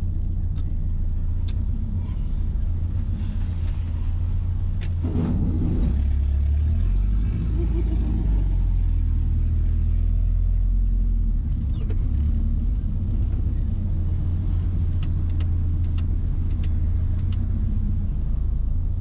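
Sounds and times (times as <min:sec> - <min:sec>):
pickup engine low rumble: 0:00.0 - 0:19.0.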